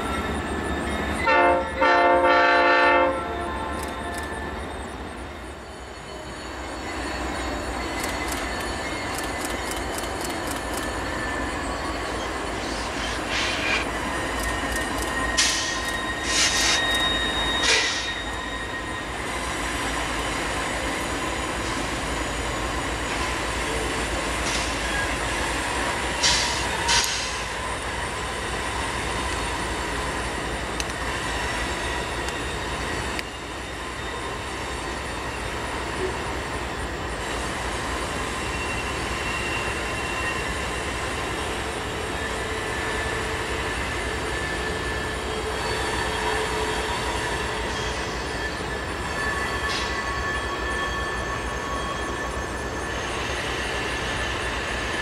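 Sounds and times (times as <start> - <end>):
freight train rumbling: 0.0 - 55.0
wheel squeal: 3.4 - 55.0.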